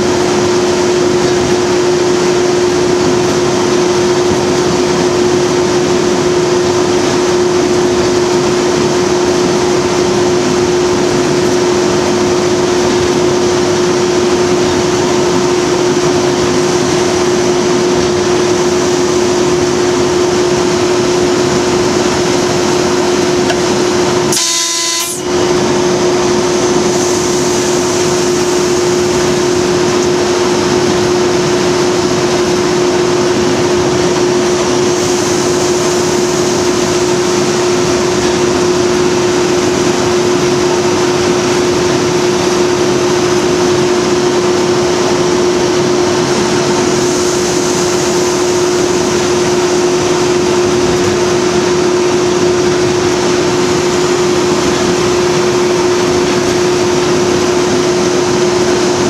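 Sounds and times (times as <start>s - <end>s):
diesel locomotive engine drone: 0.0s - 59.0s
train running noise: 0.0s - 59.0s.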